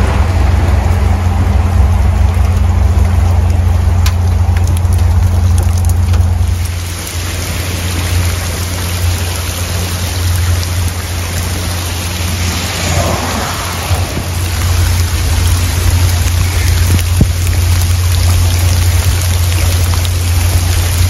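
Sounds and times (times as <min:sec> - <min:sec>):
heavy rain: 0:00.0 - 0:21.0
low hum: 0:00.0 - 0:21.0
rushing floodwater: 0:00.0 - 0:21.0.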